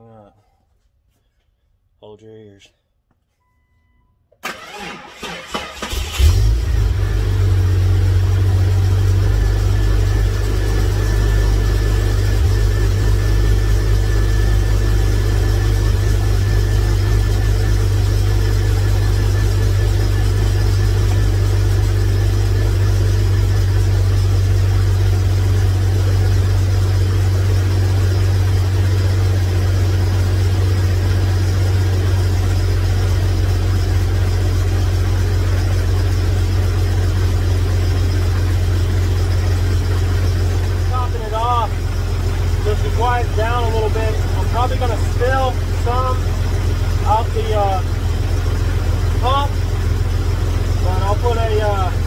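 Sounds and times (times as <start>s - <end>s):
car engine cranking and idling: 4.3s - 52.0s.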